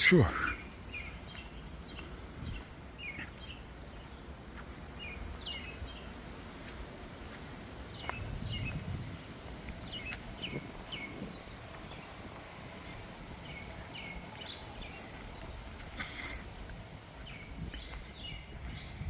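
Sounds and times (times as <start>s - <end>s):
bird chirping: 0.0s - 6.8s, 7.9s - 19.0s.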